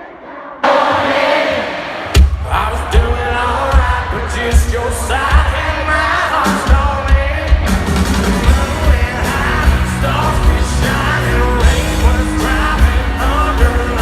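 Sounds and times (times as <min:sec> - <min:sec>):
man singing lead vocal: 0:01.6 - 0:14.0
country rock band playing: 0:02.2 - 0:14.0.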